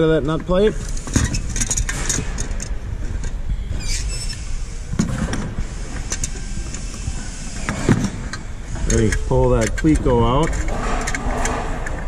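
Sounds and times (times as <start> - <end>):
low workshop rumble: 0.0 - 12.0.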